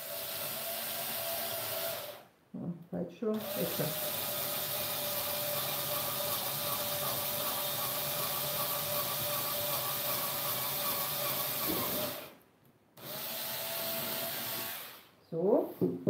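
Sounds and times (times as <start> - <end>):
electric drill boring wood: 0.0 - 2.3, 3.4 - 12.4, 13.0 - 15.1.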